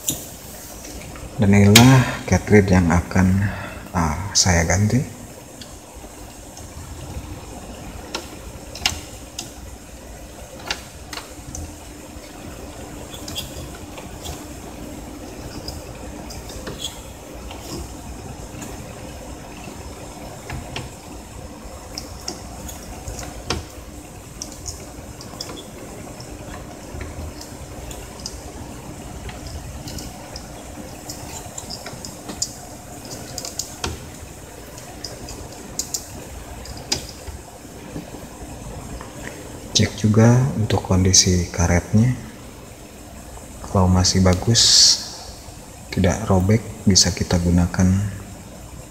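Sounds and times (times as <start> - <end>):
faint hiss: 0.0 - 48.9
steady low hum: 0.0 - 48.9.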